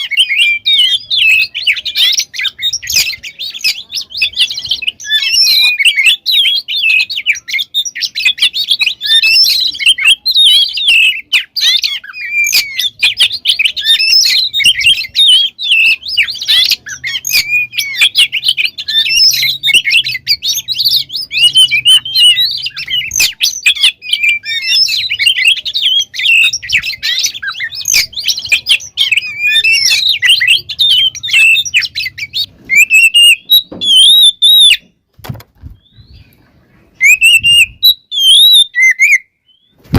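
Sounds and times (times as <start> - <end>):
songbird singing varied whistles: 0.0 - 34.9, 35.7 - 39.9.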